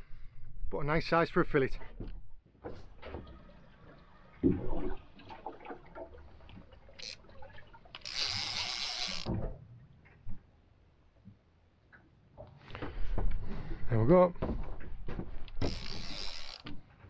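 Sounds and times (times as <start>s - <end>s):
water lapping against boat hull: 1.7s - 17.0s.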